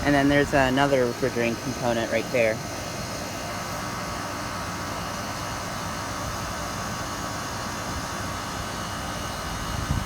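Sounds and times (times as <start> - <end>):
air conditioning unit running: 0.0 - 10.0.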